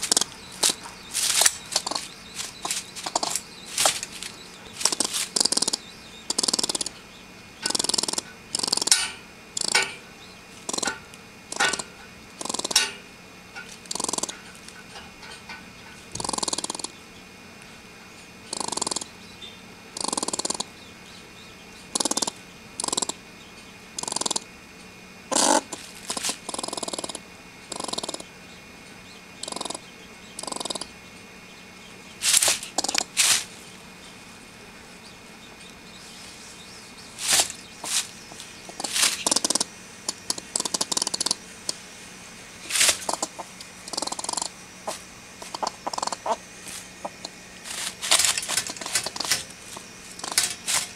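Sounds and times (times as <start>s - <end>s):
squirrel chattering calls: 0.0s - 13.0s, 13.6s - 17.2s, 18.4s - 24.5s, 25.3s - 50.9s.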